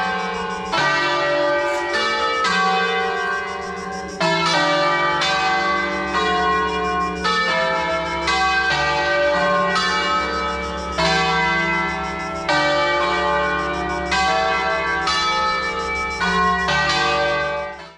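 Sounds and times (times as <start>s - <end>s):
church bells ringing: 0.0s - 17.9s.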